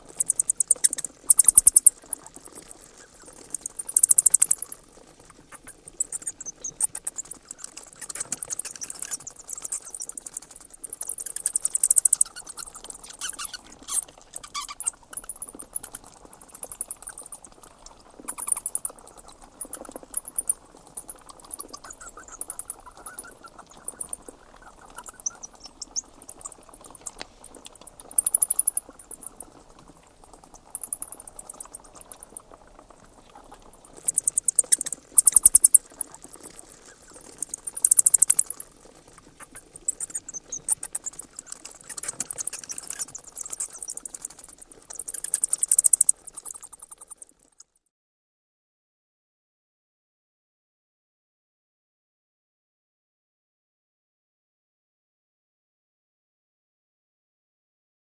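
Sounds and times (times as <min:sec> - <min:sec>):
bats squeaking: 0:00.0 - 0:47.6.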